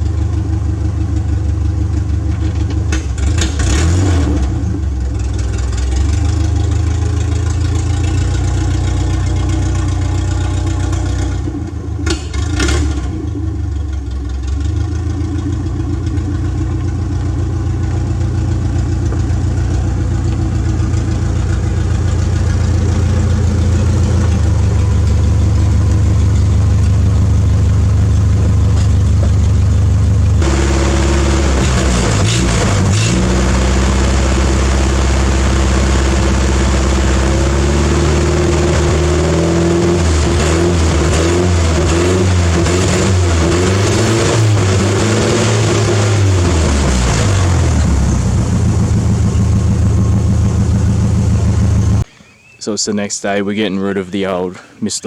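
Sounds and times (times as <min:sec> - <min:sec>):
petrol engine idling and revving: 0:00.0 - 0:52.1.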